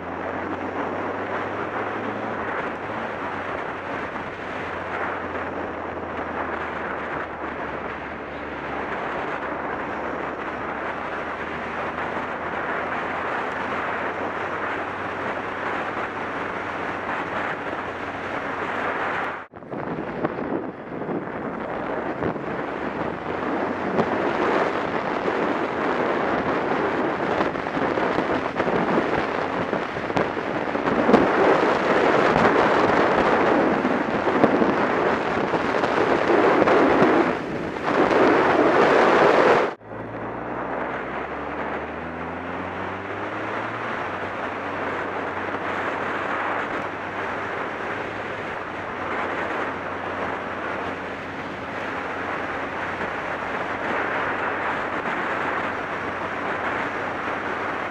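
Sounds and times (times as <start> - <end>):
motorcycle engine accelerating: 0.0 - 57.9
wind buffeting microphone: 0.0 - 57.9.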